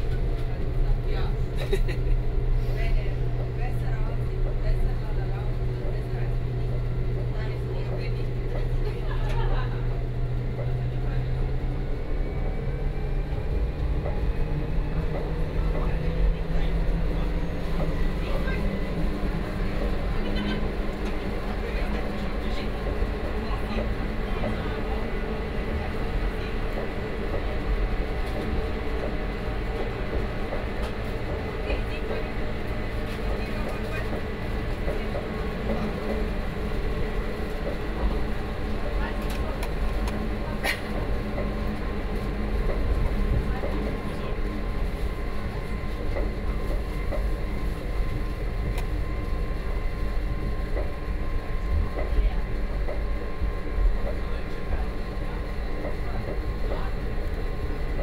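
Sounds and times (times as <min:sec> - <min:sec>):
constant hum: 0:00.0 - 0:58.0
rack train rumbling: 0:00.0 - 0:58.0.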